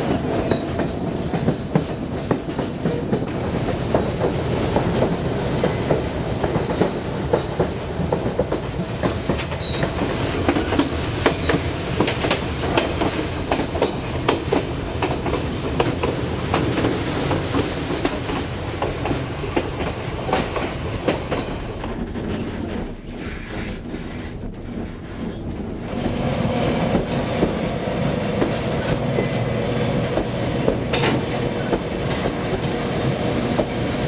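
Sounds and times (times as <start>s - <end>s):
train car rumbling: 0.0s - 34.0s.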